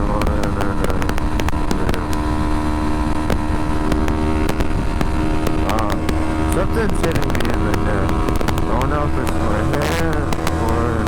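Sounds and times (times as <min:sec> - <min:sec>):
motorcycle engine cruising: 0:00.0 - 0:11.0
sharp ticks: 0:00.0 - 0:11.0.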